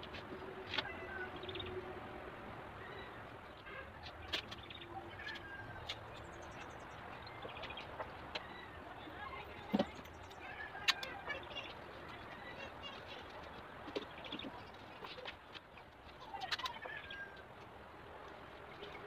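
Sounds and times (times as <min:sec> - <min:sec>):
birds chirping: 0:00.3 - 0:01.9, 0:02.7 - 0:17.7.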